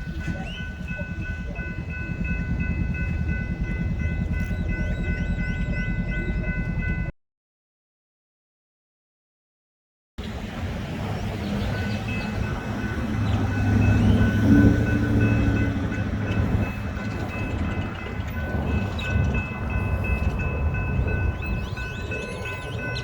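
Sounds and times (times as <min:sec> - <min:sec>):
pulsing high ringing: 0:00.0 - 0:07.1, 0:10.6 - 0:23.0
train rumbling past: 0:00.0 - 0:07.1, 0:10.2 - 0:23.0.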